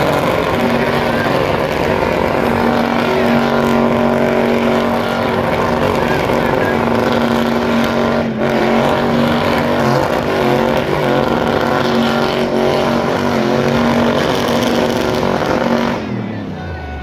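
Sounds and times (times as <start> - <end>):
car engine revving high: 0.0 - 16.6.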